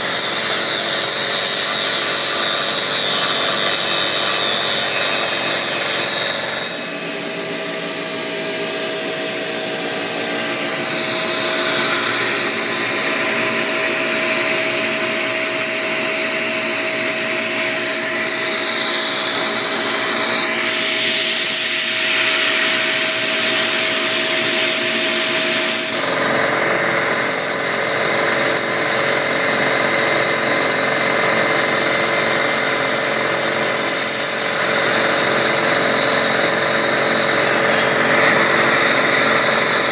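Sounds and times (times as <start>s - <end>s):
milling machine cutting plastic: 0.0s - 39.9s.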